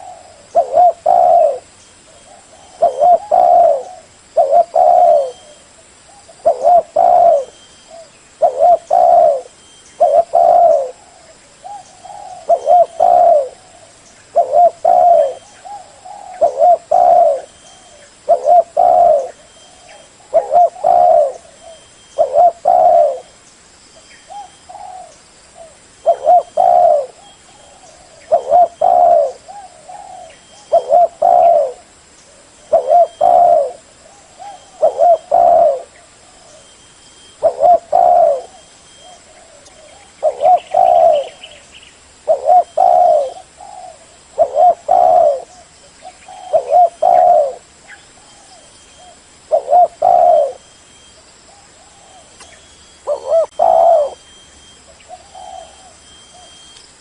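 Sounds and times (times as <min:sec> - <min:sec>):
dove cooing: 0:00.0 - 0:23.4, 0:24.3 - 0:50.8, 0:51.5 - 0:56.7.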